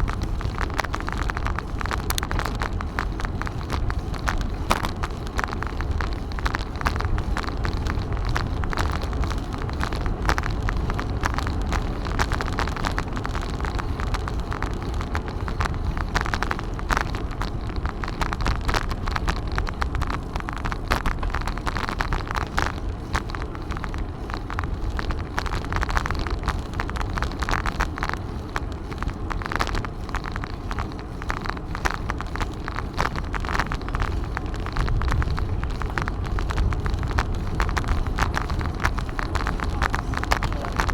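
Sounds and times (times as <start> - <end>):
bicycle rattling over path: 0.0 - 40.9
wind rumbling on microphone: 0.0 - 40.9.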